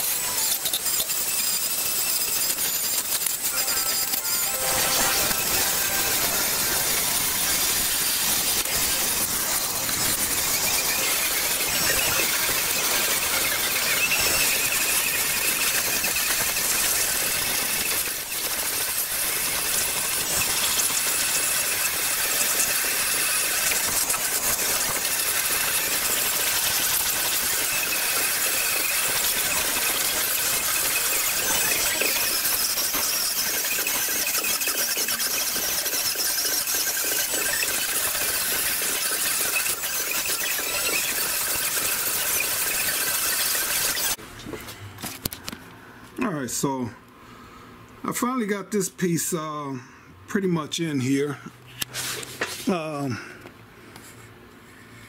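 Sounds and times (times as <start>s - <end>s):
die grinder squealing whine: 0.0s - 44.2s.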